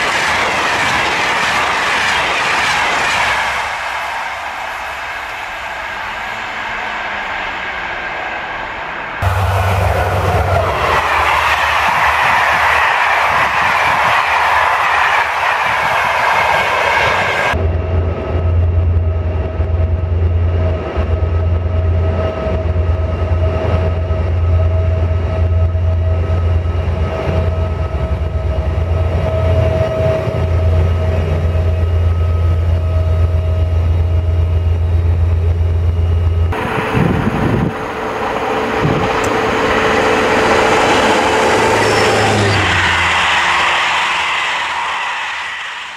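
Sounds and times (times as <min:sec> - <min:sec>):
diesel locomotive engine drone: 0:00.0 - 0:45.9.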